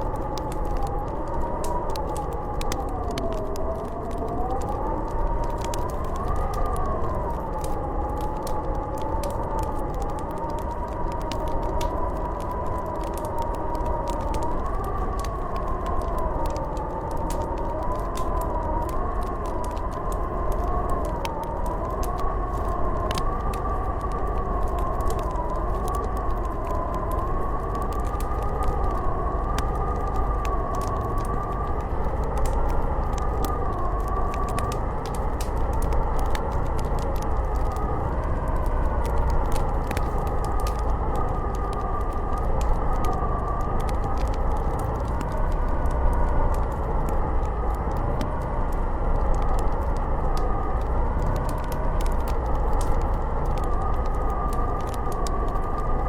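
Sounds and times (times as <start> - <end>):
wind howling with whistle: 0.0 - 56.0
wood fire crackling and popping: 0.0 - 56.0.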